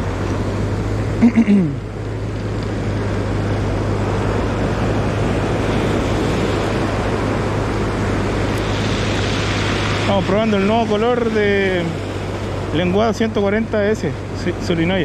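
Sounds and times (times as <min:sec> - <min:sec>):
ocean surf washing ashore: 0:00.0 - 0:15.0
steady low rumble: 0:00.0 - 0:15.0.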